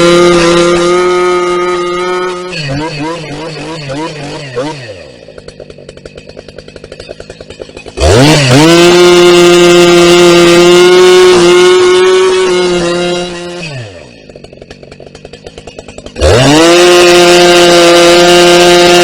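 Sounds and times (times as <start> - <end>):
chainsaw idling and revving: 0.0 - 19.0.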